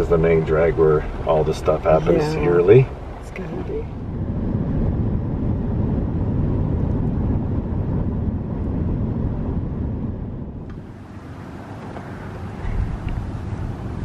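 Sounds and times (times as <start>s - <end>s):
car road noise from inside: 0.0s - 14.0s.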